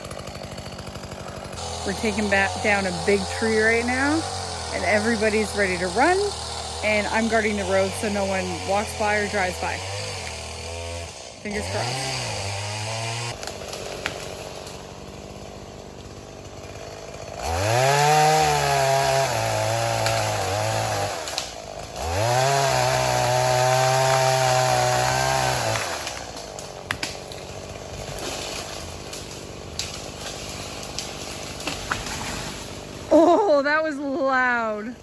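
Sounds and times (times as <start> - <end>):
chainsaw revving: 0.0 - 35.0.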